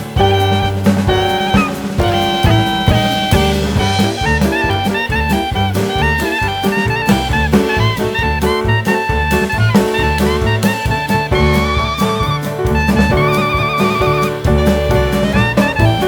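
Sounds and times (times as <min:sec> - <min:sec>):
bass: 0:00.0 - 0:16.0
drum kit beat: 0:00.0 - 0:16.0
saxophone melody: 0:00.0 - 0:16.0.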